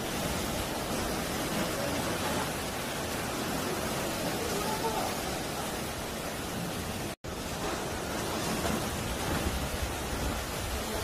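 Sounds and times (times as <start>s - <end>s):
waves washing over rocks: 0.0s - 11.0s.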